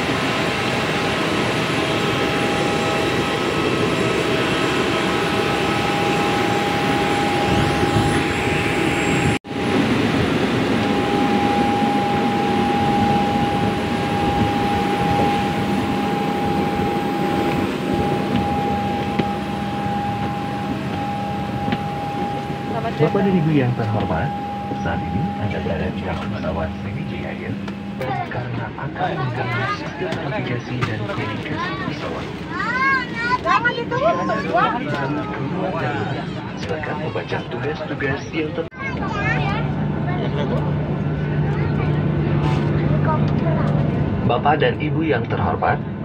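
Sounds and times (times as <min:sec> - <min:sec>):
jet airliner engine whine: 0:00.0 - 0:46.0.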